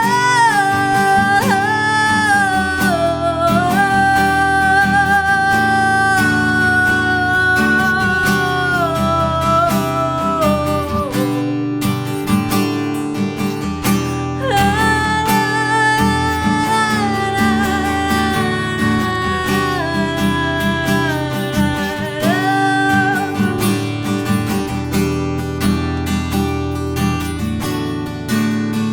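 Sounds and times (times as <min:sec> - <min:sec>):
worship music on acoustic guitar: 0:00.0 - 0:28.9.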